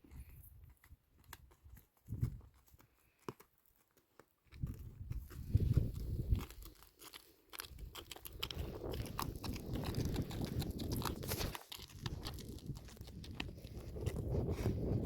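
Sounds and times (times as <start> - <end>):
donkey chewing grass: 0.0 - 15.0.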